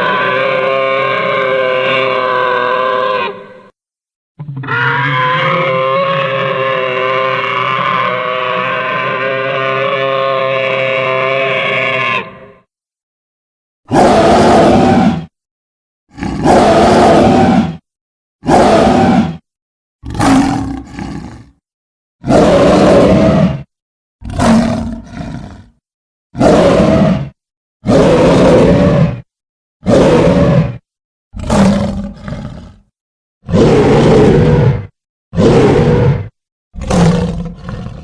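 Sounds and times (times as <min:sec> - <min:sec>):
dinosaur roars: 0:00.0 - 0:03.7, 0:04.4 - 0:12.6, 0:13.9 - 0:15.3, 0:16.1 - 0:17.8, 0:18.4 - 0:19.4, 0:20.0 - 0:21.6, 0:22.2 - 0:25.8, 0:26.4 - 0:29.2, 0:29.8 - 0:30.8, 0:31.4 - 0:38.0.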